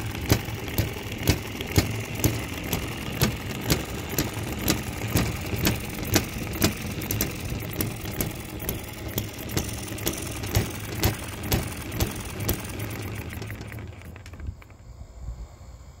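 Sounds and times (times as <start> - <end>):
model engine popping and humming: 0.0 - 14.9.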